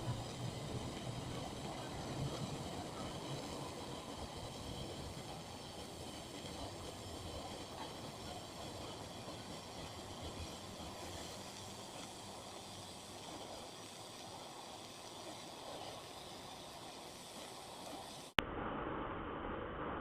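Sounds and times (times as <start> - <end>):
welding arc hissing: 0.0 - 18.4.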